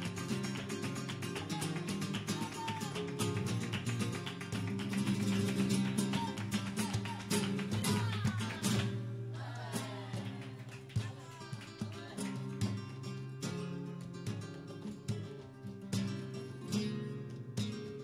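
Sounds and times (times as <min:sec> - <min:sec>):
flamenco guitar strumming: 0:00.0 - 0:18.0.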